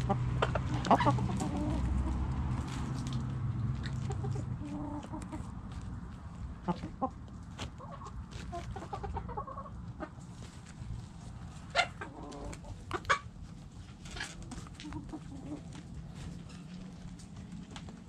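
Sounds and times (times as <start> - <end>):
chickens clucking softly: 0.0 - 2.4, 3.8 - 17.2
chickens scratching in dirt: 0.2 - 18.0.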